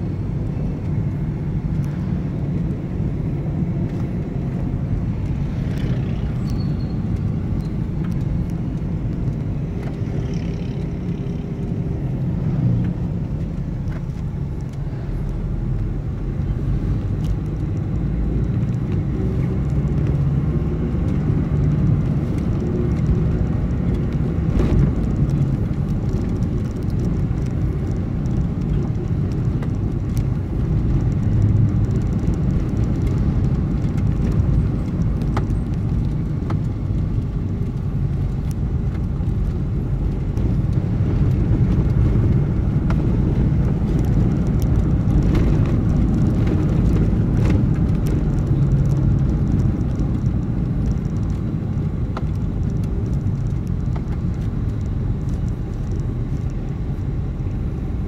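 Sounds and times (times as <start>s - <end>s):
vehicle engine rumble: 0.0s - 58.0s
wind noise: 0.0s - 58.0s.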